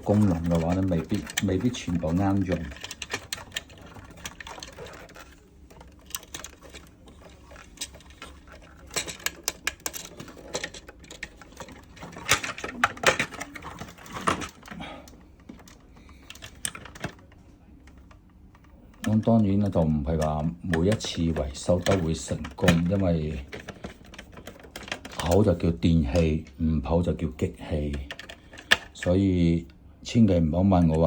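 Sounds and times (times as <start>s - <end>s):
hard objects clicking and tapping: 0.0s - 17.3s, 17.9s - 25.6s, 27.8s - 29.2s.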